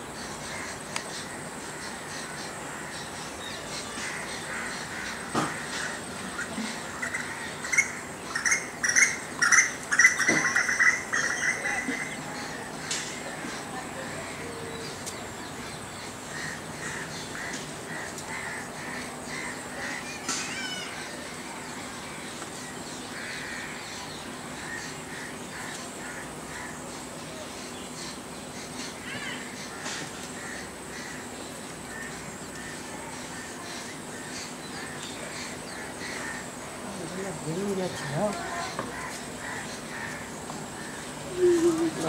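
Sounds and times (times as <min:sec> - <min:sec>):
harsh bird calls: 0:00.0 - 0:42.0.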